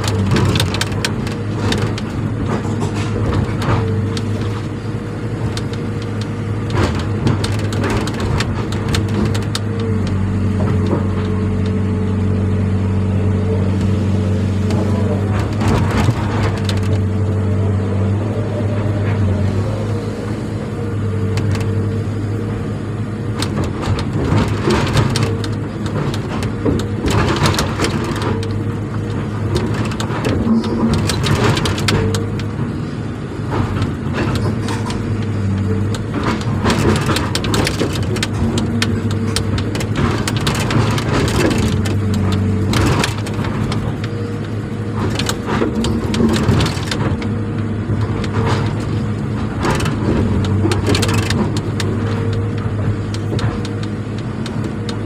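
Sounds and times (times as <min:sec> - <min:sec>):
crunching and knocking: 0:00.0 - 0:19.4, 0:20.8 - 0:55.0
engine running steadily: 0:00.0 - 0:55.0.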